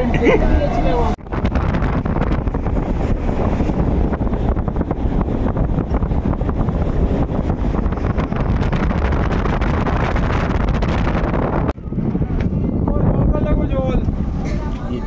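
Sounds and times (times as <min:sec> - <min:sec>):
train rumble: 0:00.0 - 0:15.0
wind buffeting microphone: 0:00.0 - 0:15.0.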